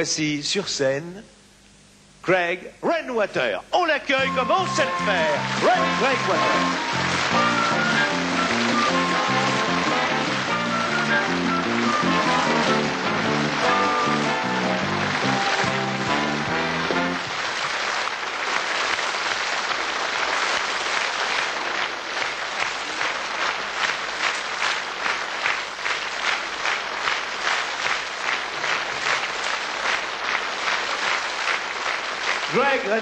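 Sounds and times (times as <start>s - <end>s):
audience applauding: 4.2s - 33.0s.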